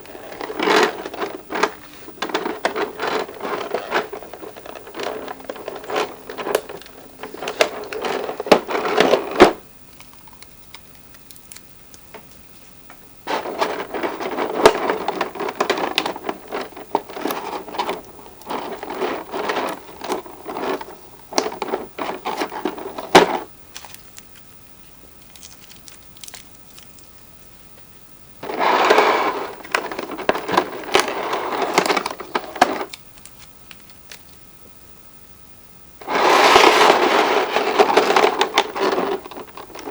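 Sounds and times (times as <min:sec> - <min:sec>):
packaging rustling and crinkling: 0:00.0 - 0:34.7, 0:36.0 - 0:39.9.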